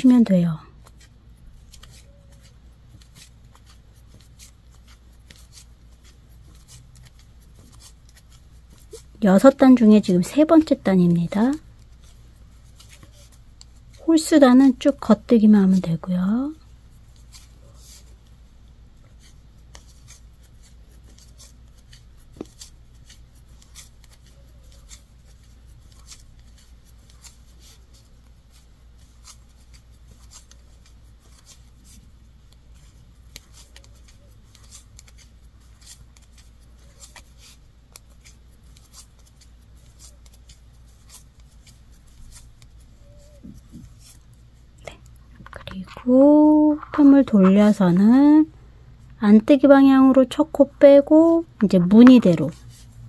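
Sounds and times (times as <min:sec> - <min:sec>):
yarn rustling: 0:00.0 - 0:48.5, 0:51.1 - 0:53.0.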